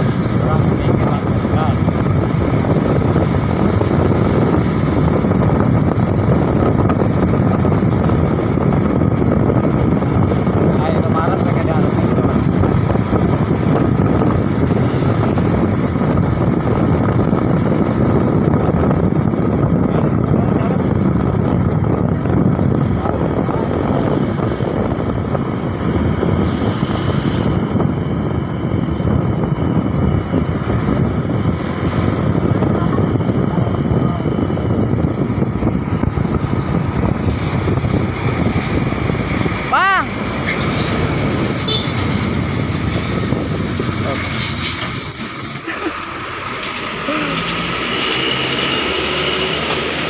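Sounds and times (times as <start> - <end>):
truck engine and tyre drone: 0.0 - 50.0.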